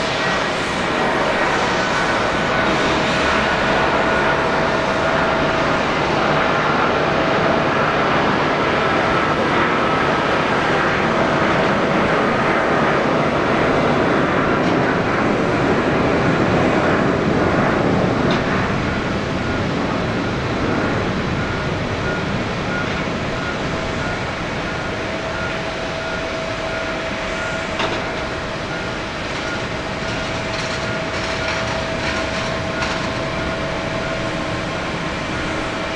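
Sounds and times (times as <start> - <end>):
jet engine roar: 0.0 - 35.9.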